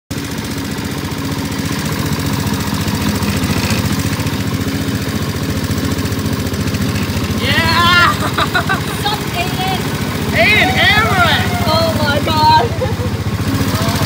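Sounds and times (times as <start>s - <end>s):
small engine puttering: 0.1s - 14.0s.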